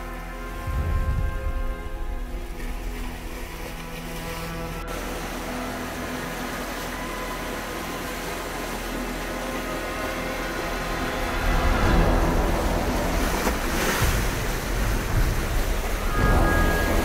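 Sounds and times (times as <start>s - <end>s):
faint sustained tones: 0.0s - 17.0s
sea surf: 0.0s - 17.0s
wind: 0.0s - 17.0s.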